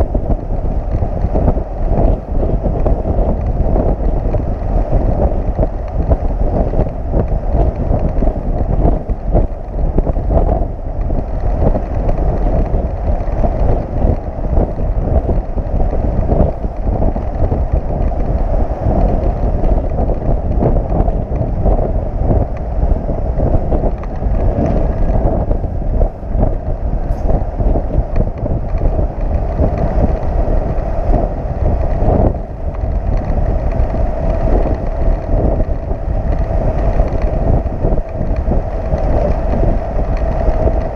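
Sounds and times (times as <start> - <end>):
truck and road rumble: 0.0 - 40.9
wind buffeting microphone: 0.0 - 40.9.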